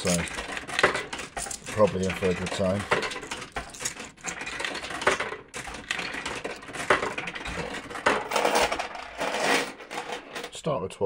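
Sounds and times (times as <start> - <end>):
coins clattering through a machine: 0.0 - 10.6.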